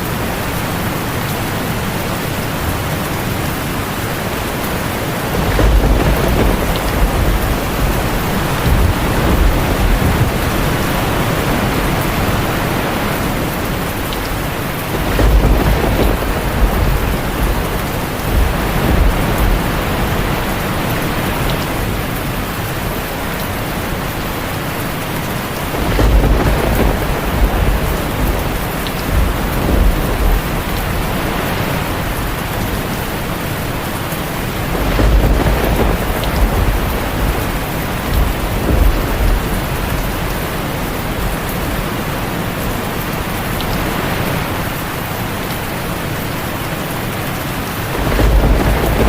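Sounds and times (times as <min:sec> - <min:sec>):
thunder rumbling: 0:00.0 - 0:44.8, 0:47.6 - 0:49.0
heavy rain on a tin roof: 0:00.0 - 0:49.0.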